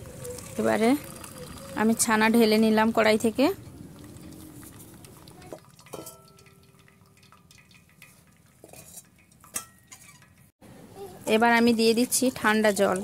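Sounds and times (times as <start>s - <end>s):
liquid dripping and trickling: 0.0s - 10.5s.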